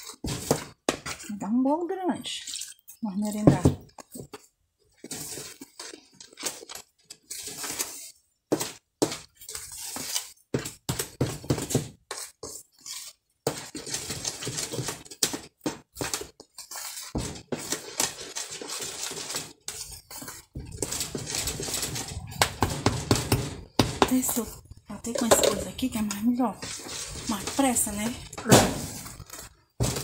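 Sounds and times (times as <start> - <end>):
batter stirred in plastic bowl: 0.0 - 30.0.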